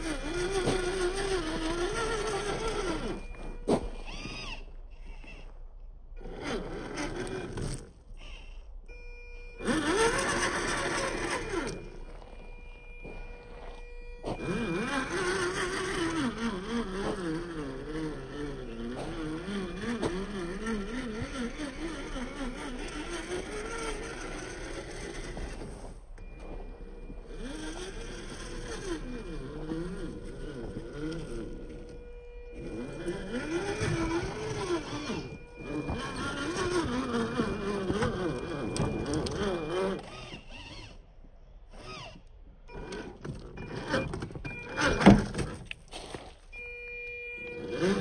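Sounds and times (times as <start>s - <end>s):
electric motor whining: 0.0s - 48.0s.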